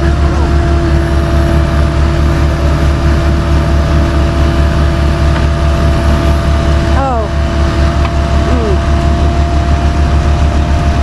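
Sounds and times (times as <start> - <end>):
heavy engine running: 0.0 - 11.0
steady whine: 0.0 - 11.0.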